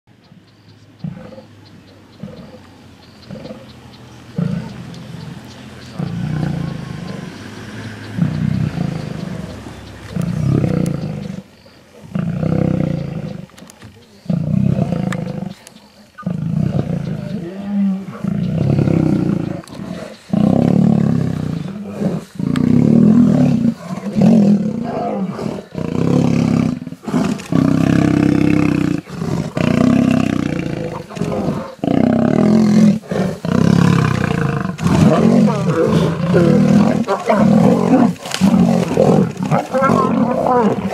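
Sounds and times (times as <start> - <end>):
lions roaring: 4.3 - 13.6, 14.2 - 15.6, 16.2 - 40.9.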